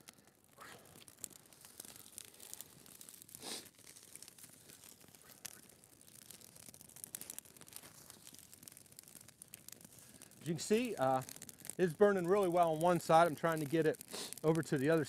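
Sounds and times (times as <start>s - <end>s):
small pops: 0.0s - 15.0s
twig fire crackling: 0.0s - 15.0s
twigs rustling: 0.0s - 15.0s.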